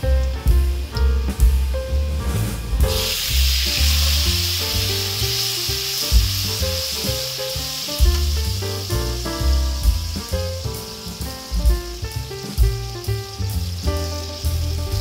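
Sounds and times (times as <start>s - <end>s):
sauce sizzling in a wok: 0.0s - 15.0s.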